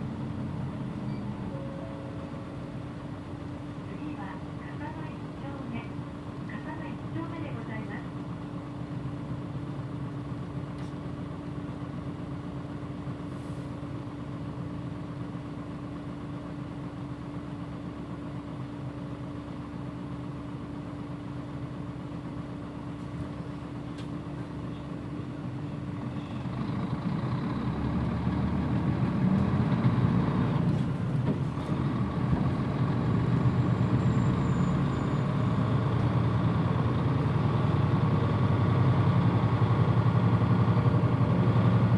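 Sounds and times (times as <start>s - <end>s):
bus diesel engine: 0.0s - 41.9s.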